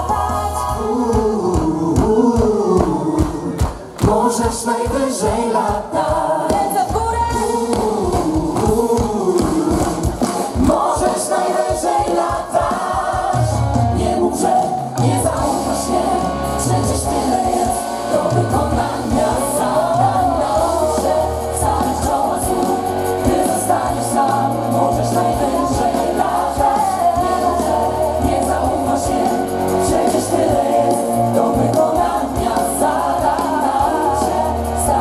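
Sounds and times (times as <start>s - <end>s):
band accompaniment: 0.0s - 35.0s
group singing live pop music: 0.0s - 35.0s.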